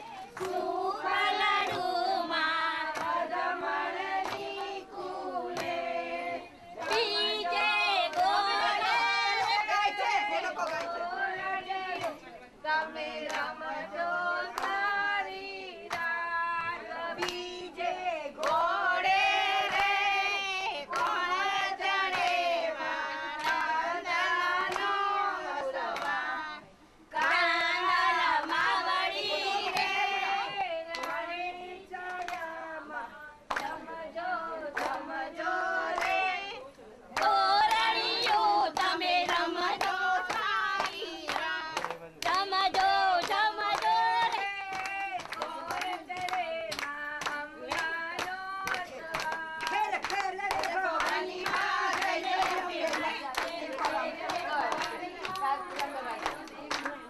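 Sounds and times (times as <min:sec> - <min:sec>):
rhythmic hand clapping: 0:00.0 - 0:26.4, 0:27.1 - 0:57.0
women singing folk song: 0:00.0 - 0:57.0.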